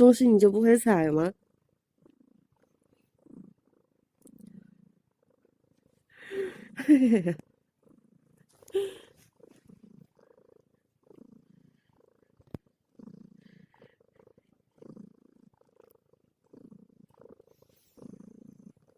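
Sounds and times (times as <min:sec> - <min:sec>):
cat purring: 0:00.0 - 0:18.9.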